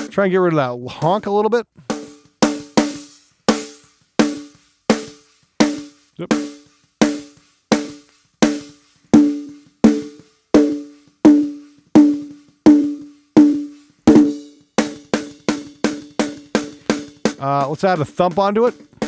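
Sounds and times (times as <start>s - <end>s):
gated snare drum hits: 0.0s - 19.0s.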